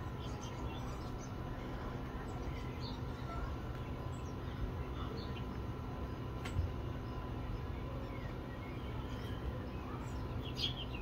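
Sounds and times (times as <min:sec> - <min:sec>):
faint bird chirps: 0:00.0 - 0:11.0
low background noise: 0:00.0 - 0:11.0.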